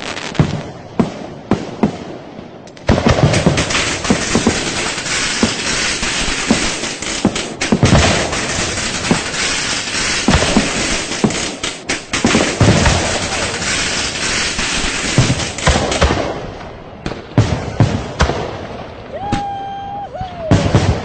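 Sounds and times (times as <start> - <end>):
firecrackers banging and crackling: 0.0 - 19.6.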